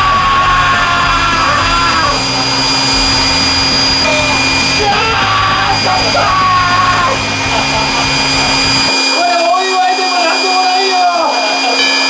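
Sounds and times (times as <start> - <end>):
high strained voice: 0.0 - 9.8
electric air blower running: 0.0 - 12.0.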